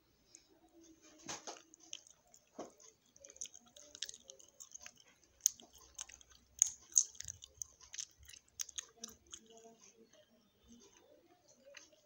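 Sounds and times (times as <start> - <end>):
person chewing chocolate: 1.4 - 12.0.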